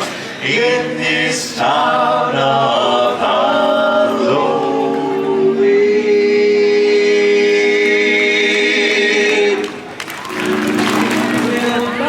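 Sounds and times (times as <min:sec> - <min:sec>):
quartet singing in close harmony: 0:00.4 - 0:12.0.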